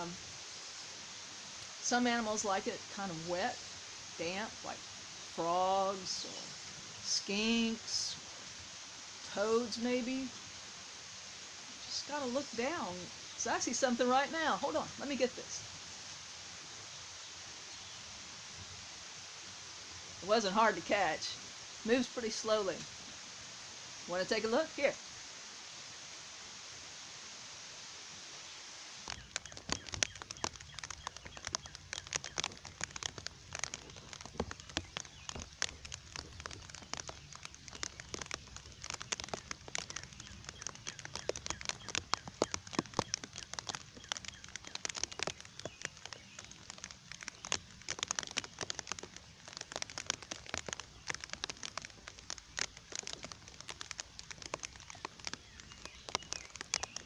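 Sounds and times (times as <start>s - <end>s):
raindrops ticking: 0.0s - 57.0s
steady rain hiss: 0.0s - 57.0s.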